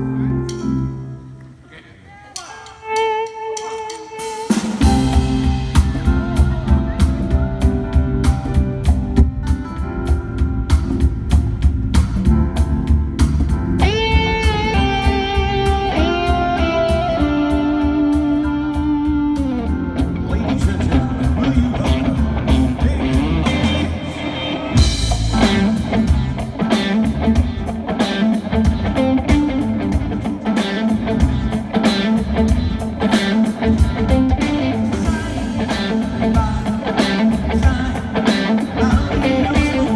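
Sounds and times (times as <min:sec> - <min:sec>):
live rock band: 0:02.4 - 0:39.9
loud electric guitar: 0:02.6 - 0:39.9.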